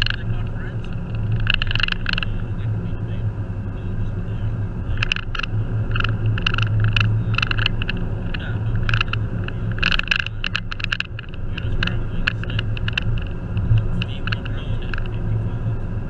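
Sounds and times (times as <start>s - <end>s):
car engine and road hum: 0.0s - 16.0s
sharp ticks and rattles: 0.0s - 16.0s.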